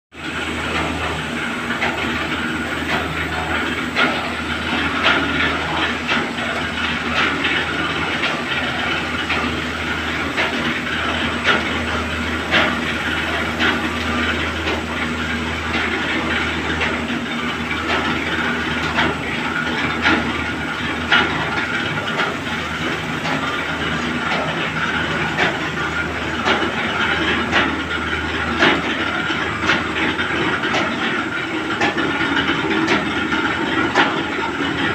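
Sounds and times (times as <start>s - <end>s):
machine whirring: 0.2s - 34.9s
mechanical clicks and clacks: 0.2s - 34.9s.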